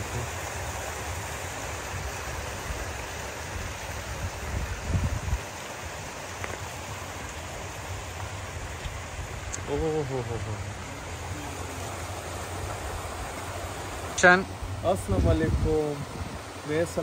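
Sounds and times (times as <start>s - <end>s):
water rushing through channel: 0.0s - 17.0s.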